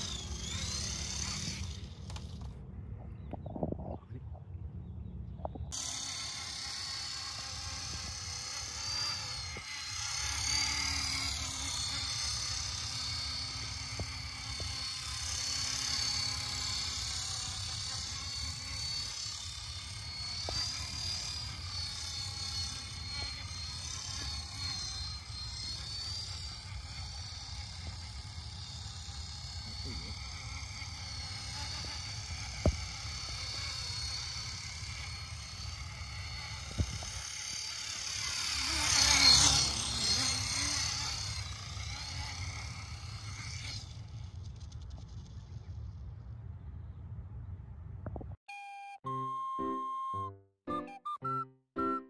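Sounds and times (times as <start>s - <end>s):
model helicopter motor whine: 0.0s - 2.7s, 5.6s - 46.1s
rotor hum: 0.0s - 48.4s.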